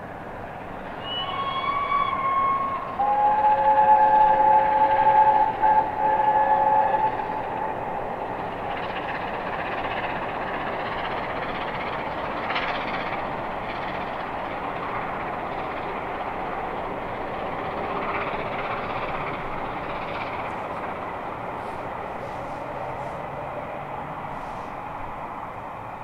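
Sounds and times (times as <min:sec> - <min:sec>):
distant steam train rumble: 0:00.0 - 0:26.0.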